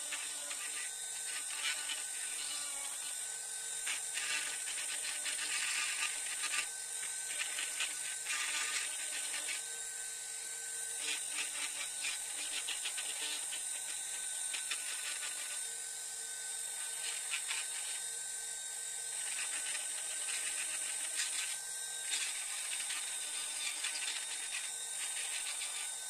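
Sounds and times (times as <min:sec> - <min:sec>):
rotary tool whining: 0:00.0 - 0:26.0.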